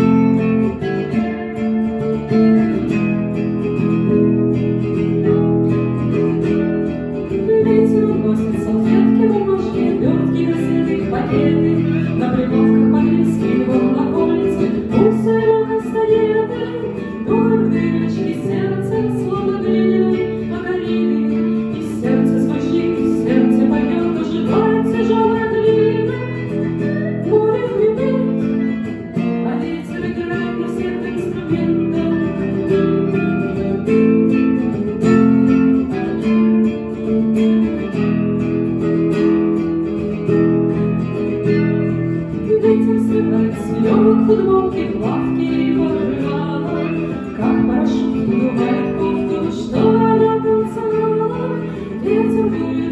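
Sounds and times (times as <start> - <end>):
acoustic guitar playing: 0.0 - 52.9.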